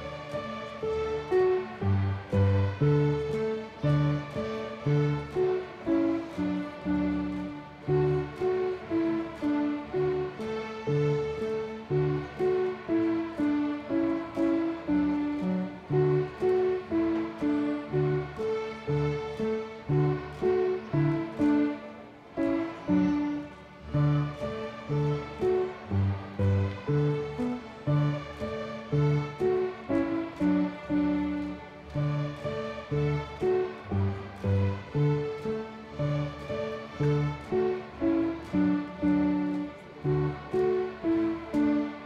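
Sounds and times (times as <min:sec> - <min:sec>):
string orchestra plucking: 0:00.0 - 0:42.0.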